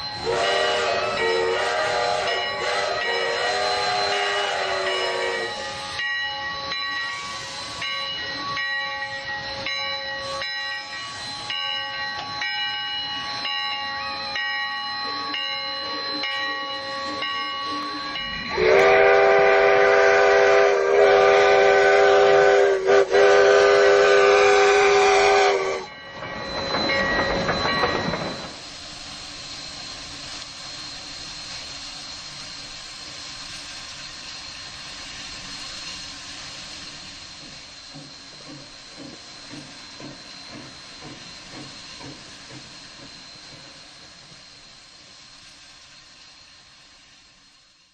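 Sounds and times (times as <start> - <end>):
chime steam whistle: 0.0 - 47.9
steam hiss: 0.0 - 47.9
steam locomotive chuffing: 0.0 - 47.9.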